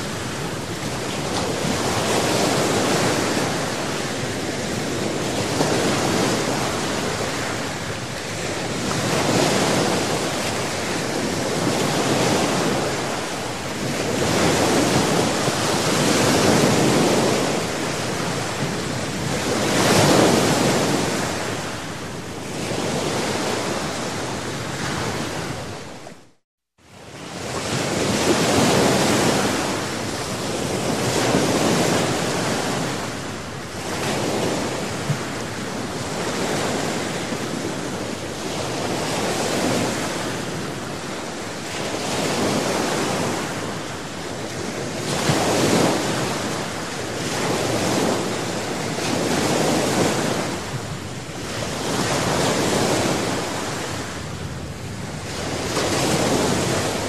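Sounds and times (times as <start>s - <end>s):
small waves breaking on shore: 0.0s - 26.2s, 26.8s - 57.0s.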